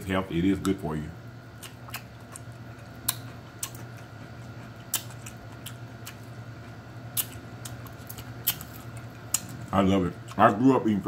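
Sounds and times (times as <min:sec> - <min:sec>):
low steady hum: 0:00.0 - 0:11.0
crisp chewing of cucumber: 0:01.5 - 0:10.6.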